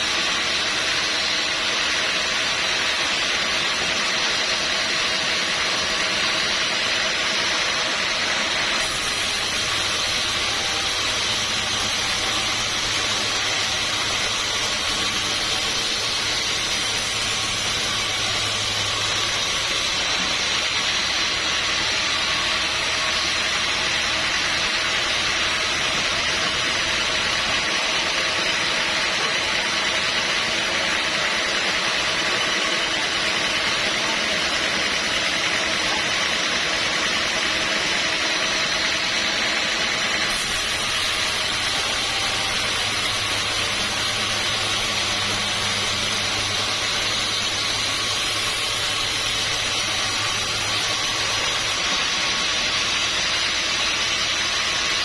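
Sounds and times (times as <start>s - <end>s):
sawmill machinery hiss: 0.0s - 55.0s.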